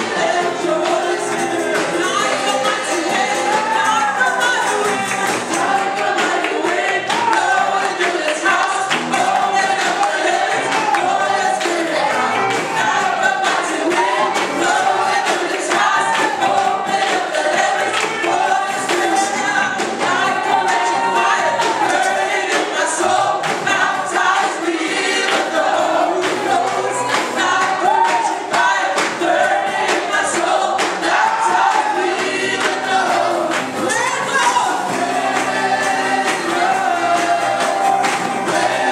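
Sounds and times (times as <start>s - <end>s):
choir singing gospel: 0.0s - 38.9s
instrumental accompaniment: 0.0s - 38.9s
steady percussion: 0.0s - 38.9s.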